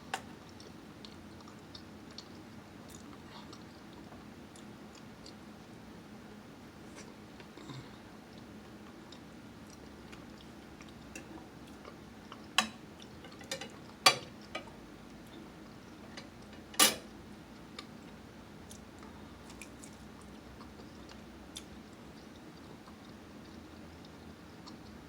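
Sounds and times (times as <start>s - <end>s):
chewing: 0.2s - 5.7s, 6.9s - 16.6s, 17.8s - 25.0s.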